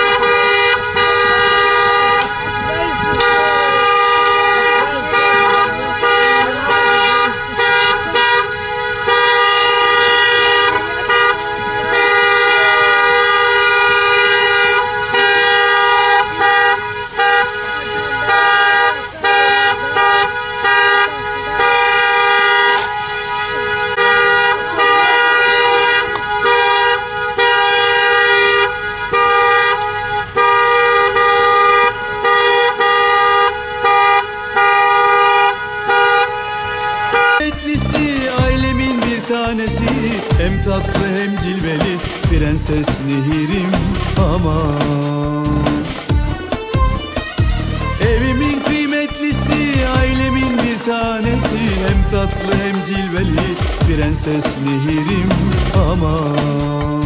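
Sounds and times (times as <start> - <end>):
car horns blaring: 0.0 - 57.0.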